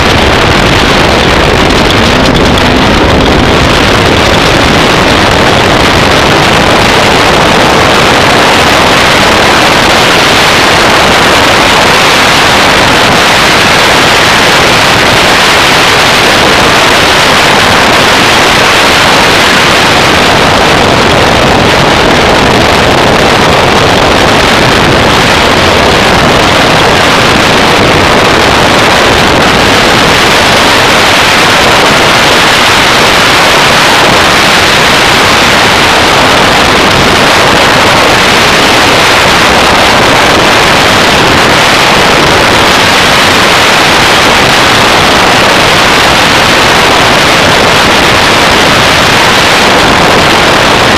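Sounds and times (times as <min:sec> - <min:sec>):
vehicle engine and wind rush: 0:00.0 - 0:50.9.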